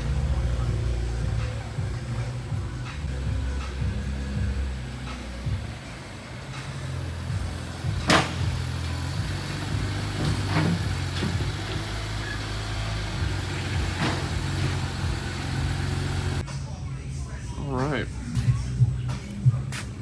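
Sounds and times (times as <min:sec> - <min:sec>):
car engine at low revs: 0:00.0 - 0:16.4.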